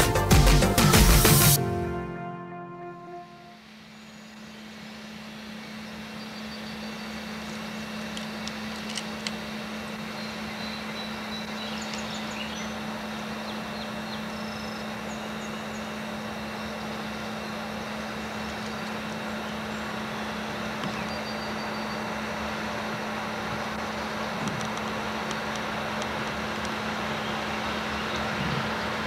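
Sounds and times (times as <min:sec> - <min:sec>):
diesel locomotive engines running: 0:00.0 - 0:29.0.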